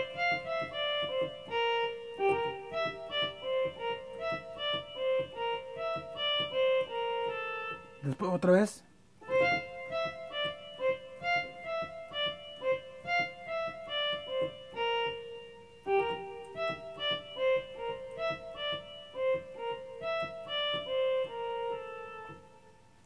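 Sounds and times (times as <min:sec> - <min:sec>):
electronic keyboard melody: 0:00.0 - 0:23.0.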